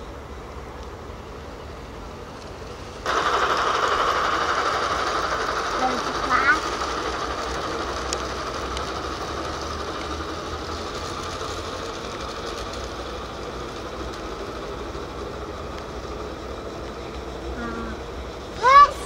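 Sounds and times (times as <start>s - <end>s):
model train running on track: 0.0s - 19.0s.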